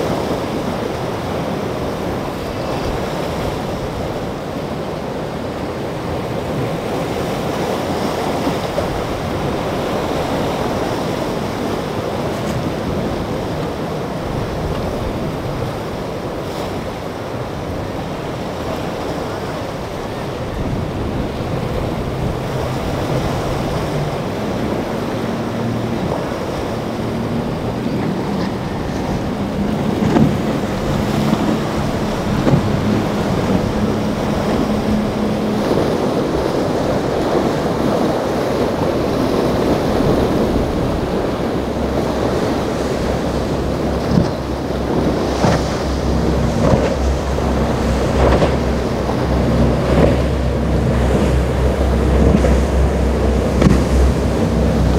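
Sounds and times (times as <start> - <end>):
low engine drone: 0.0 - 54.9
outboard motors running: 0.0 - 54.9
surf and wind on microphone: 0.0 - 54.9.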